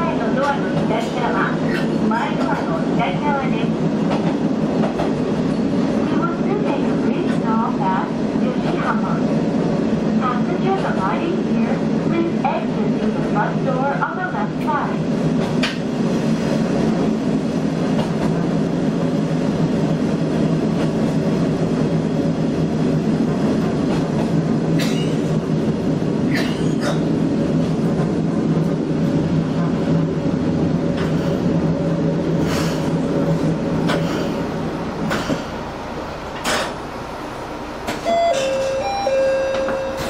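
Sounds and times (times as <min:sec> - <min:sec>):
railcar engine hum: 0:00.0 - 0:40.0.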